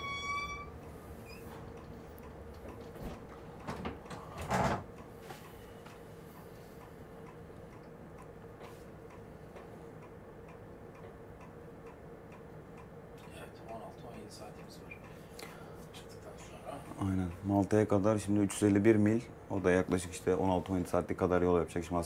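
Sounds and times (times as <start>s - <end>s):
steady hum: 0.0s - 22.0s
faint regular ticking: 0.3s - 4.3s, 4.9s - 22.0s.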